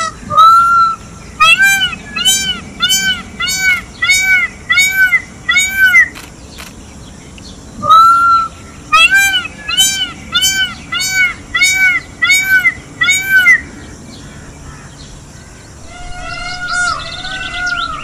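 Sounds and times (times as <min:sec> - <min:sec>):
peafowl calling: 0:00.0 - 0:06.3, 0:07.8 - 0:18.0.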